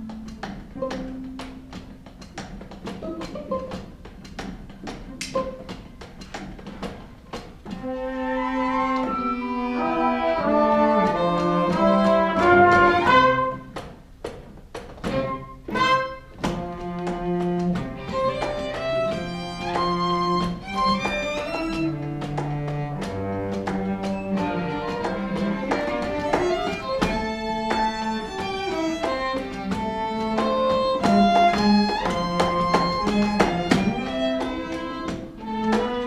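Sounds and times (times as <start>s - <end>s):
bowed strings: 0.0s - 36.0s
ticking percussion: 0.0s - 36.0s.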